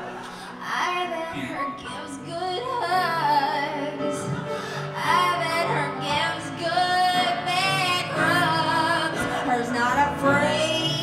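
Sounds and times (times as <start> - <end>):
piano: 0.0 - 11.0
woman singing with vibrato: 0.6 - 11.0.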